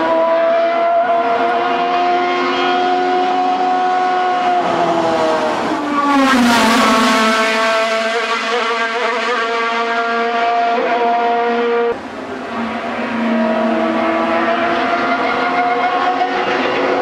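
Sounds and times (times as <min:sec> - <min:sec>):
racing car engine at high revs: 0:00.0 - 0:17.0.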